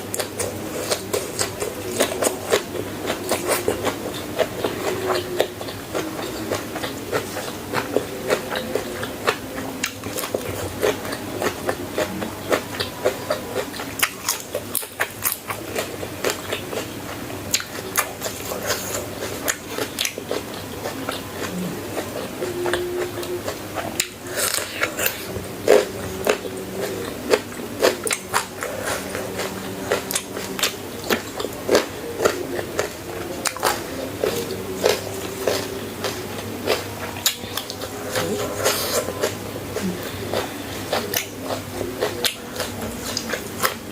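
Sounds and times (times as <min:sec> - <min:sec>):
crunchy food chewing: 0:00.0 - 0:43.9.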